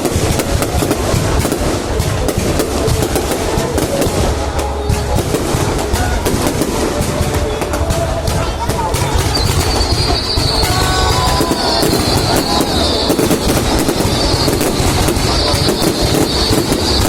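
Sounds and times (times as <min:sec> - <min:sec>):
fireworks cracking and popping: 0:00.0 - 0:17.0
low rumble of fireworks bursts: 0:00.0 - 0:17.0.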